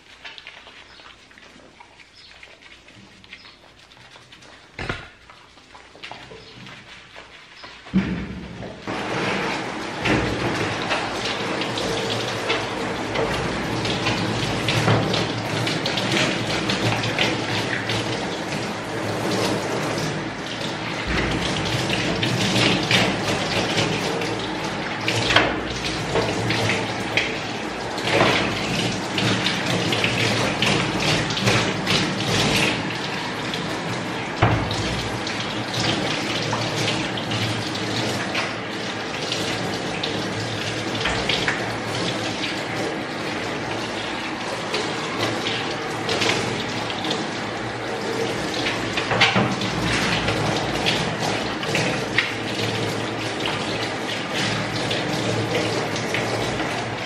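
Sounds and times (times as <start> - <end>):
water splashing into metal tub: 0.0 - 57.0
shower sprayer water running: 2.2 - 57.0.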